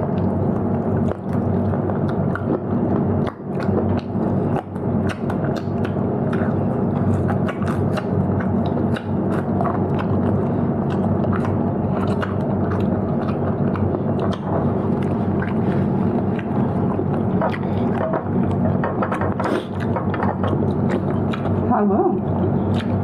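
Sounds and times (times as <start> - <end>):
low steady hum: 0.0 - 23.0
person chewing: 0.0 - 23.0.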